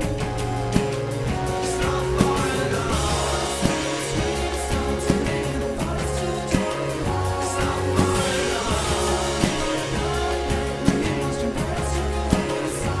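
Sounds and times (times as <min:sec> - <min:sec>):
indie rock band playing: 0:00.0 - 0:13.0
person singing: 0:00.7 - 0:13.0.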